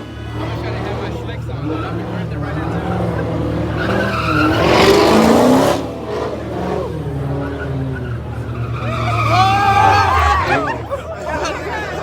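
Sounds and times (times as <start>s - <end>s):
car engine revving: 0.0s - 12.0s
tyres squealing: 1.4s - 12.0s.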